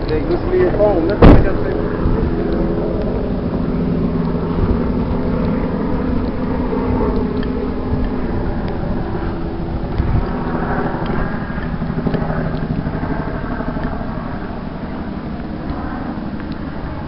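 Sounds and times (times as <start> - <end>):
faint steady tones: 0.0 - 17.0
vehicle engine rumble: 0.0 - 17.0.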